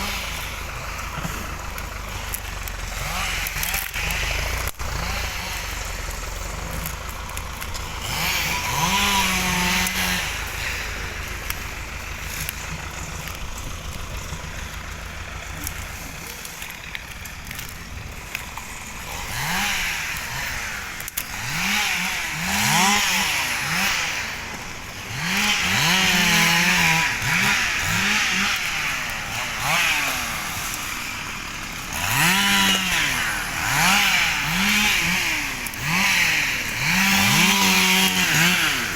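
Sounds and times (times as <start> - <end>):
chainsaw revving in bursts: 0.0 - 38.9.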